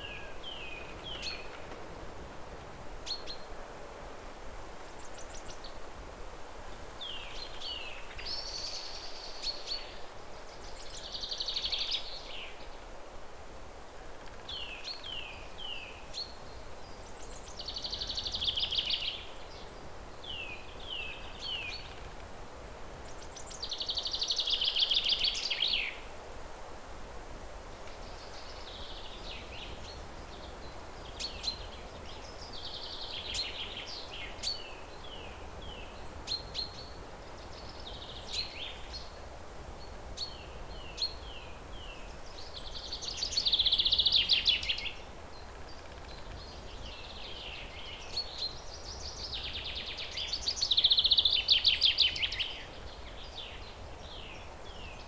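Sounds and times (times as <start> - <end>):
songbirds singing: 0.0 - 3.7, 4.6 - 6.0, 6.7 - 12.9, 14.1 - 26.2, 27.8 - 55.0
outdoor ambience hiss: 0.0 - 55.0.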